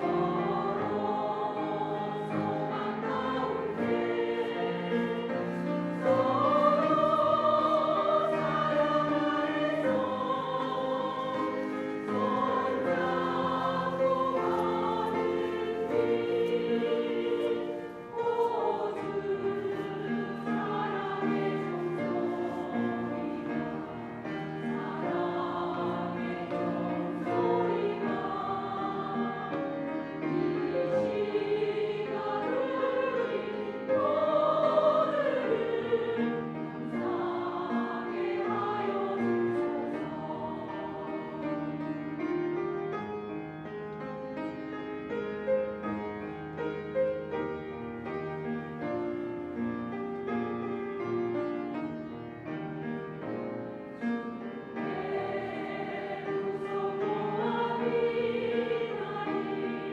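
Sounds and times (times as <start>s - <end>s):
women's choir singing a hymn: 0.0s - 59.9s.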